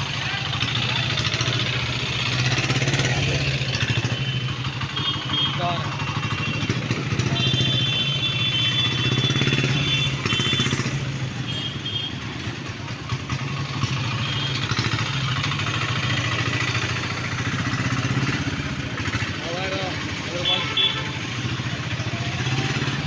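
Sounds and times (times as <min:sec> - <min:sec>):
motorcycle engines running: 0:00.0 - 0:23.0
street traffic: 0:00.0 - 0:23.0.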